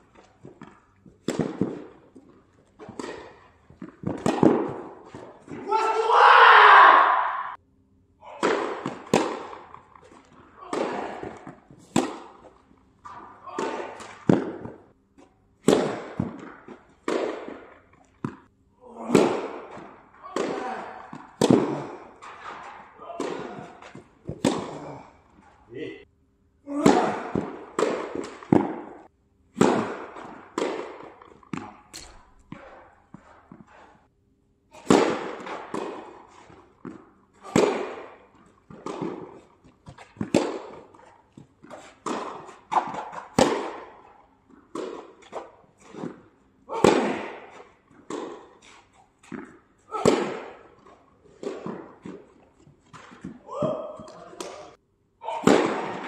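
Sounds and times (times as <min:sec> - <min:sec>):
tennis balls bouncing on court: 0:00.0 - 0:06.0, 0:08.4 - 0:25.7, 0:26.7 - 0:34.0, 0:34.7 - 0:54.8, 0:55.4 - 0:56.0
tennis balls struck by racquets: 0:00.0 - 0:06.1, 0:08.2 - 0:25.9, 0:26.6 - 0:34.1, 0:34.7 - 0:56.0.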